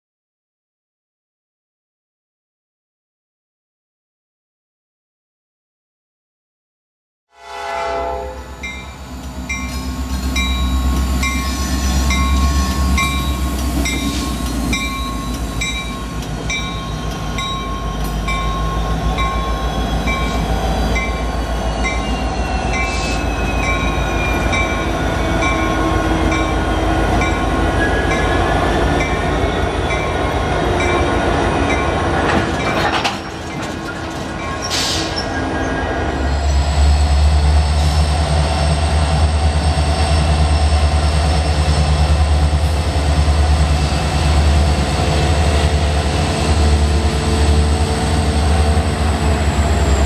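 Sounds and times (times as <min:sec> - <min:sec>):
diesel locomotives rumbling: 0:07.5 - 0:50.0.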